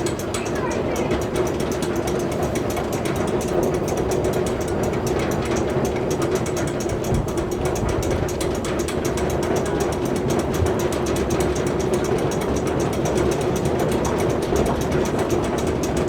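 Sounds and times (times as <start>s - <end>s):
rapid clicking: 0.0s - 16.0s.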